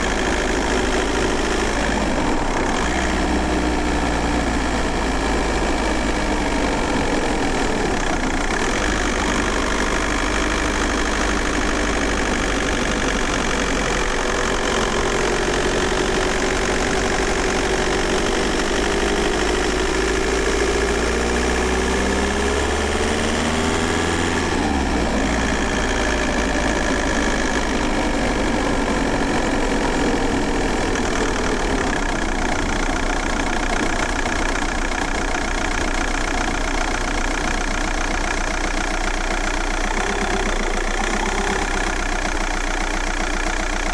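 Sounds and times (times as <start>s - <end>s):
diesel engine from inside cabin: 0.0s - 43.9s.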